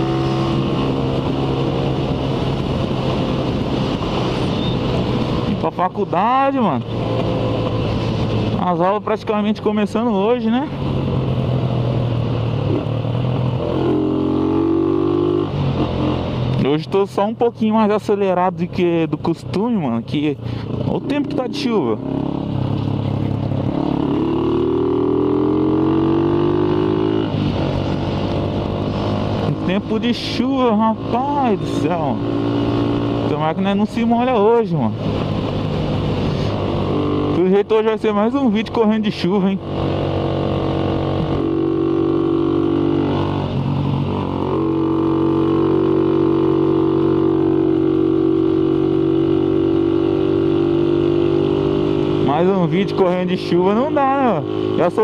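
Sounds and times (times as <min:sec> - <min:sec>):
motorcycle engine accelerating: 0:00.0 - 0:09.0, 0:10.8 - 0:16.7, 0:20.6 - 0:55.0.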